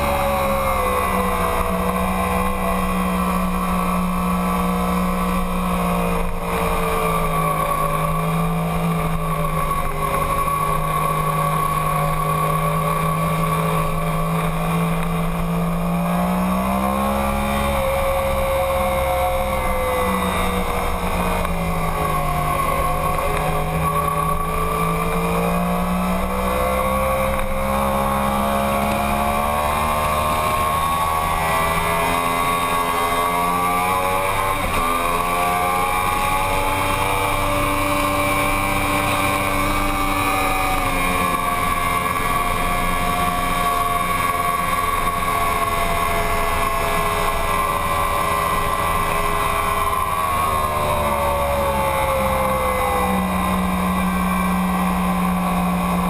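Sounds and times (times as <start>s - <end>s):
motorbike engine running hard: 0.0s - 56.0s.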